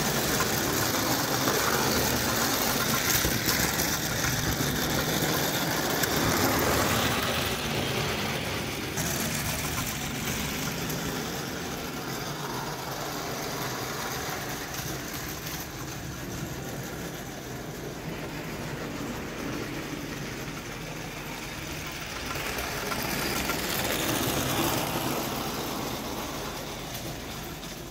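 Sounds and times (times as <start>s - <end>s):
toy steam train running on track: 0.0s - 27.9s.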